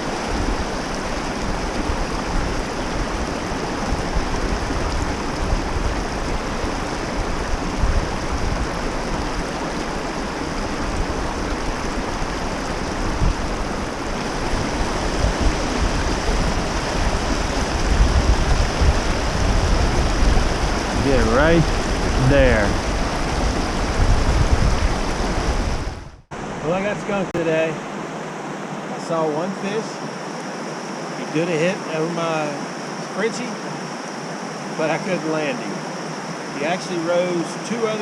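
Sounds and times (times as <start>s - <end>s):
stream flowing over rocks: 0.0s - 38.0s.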